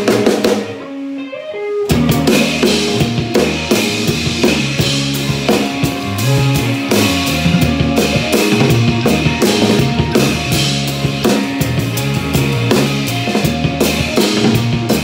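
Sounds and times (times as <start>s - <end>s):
drum kit playing: 0.0s - 15.0s
electric guitar: 0.0s - 15.0s.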